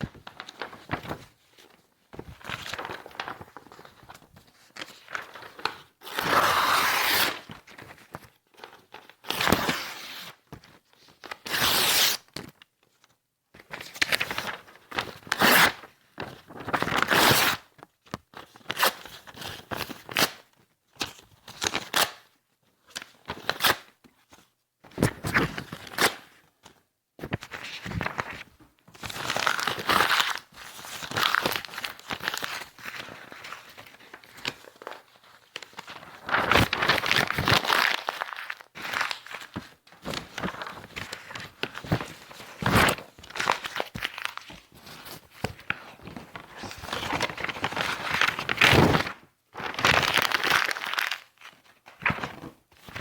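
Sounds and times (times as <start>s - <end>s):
paper rustling and crinkling: 0.0s - 11.4s, 12.0s - 22.2s, 23.0s - 53.0s.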